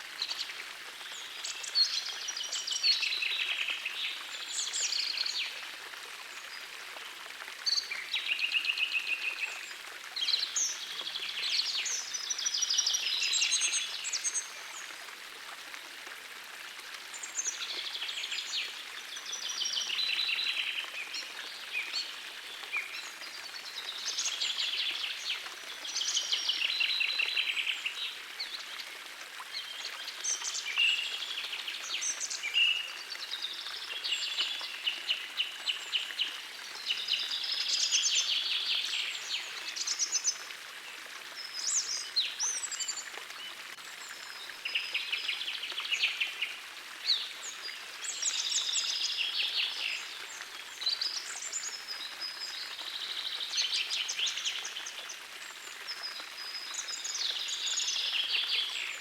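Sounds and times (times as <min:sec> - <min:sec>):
small forest stream rushing: 0:00.0 - 0:59.0.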